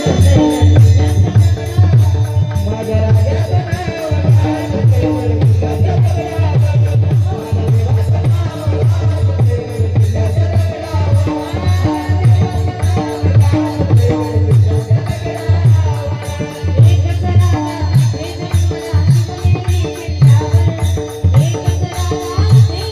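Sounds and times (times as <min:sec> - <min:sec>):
devotional music: 0:00.0 - 0:22.9
jingling percussion: 0:00.0 - 0:22.9.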